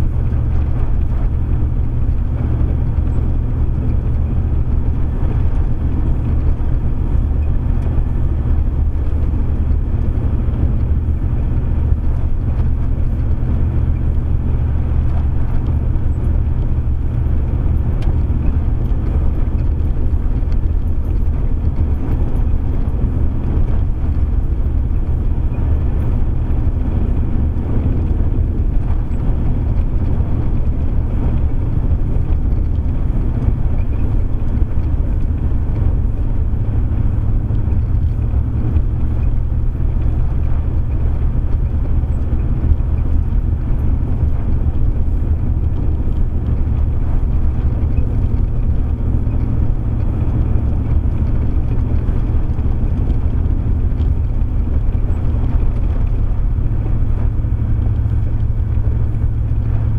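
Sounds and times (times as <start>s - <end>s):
in-cab engine drone: 0.0s - 59.9s.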